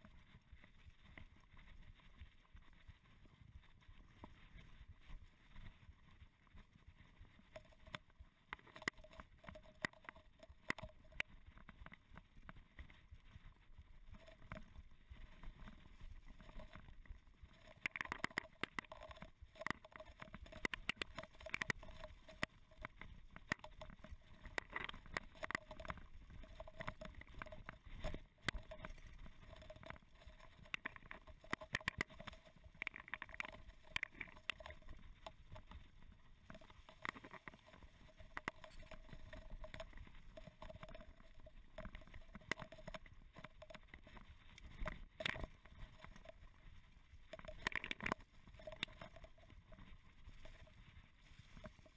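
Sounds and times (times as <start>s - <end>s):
mountain bike rattling on trail: 3.6s - 51.9s.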